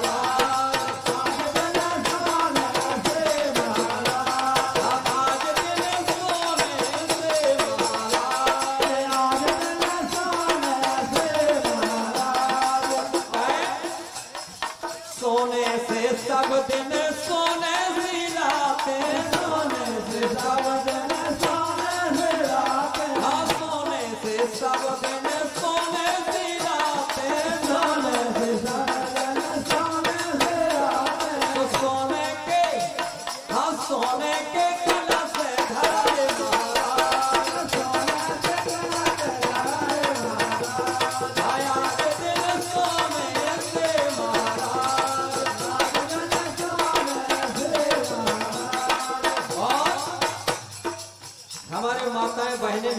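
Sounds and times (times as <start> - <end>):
hand drum beat: 0.0 - 52.9
man singing through loudspeakers: 0.0 - 52.9.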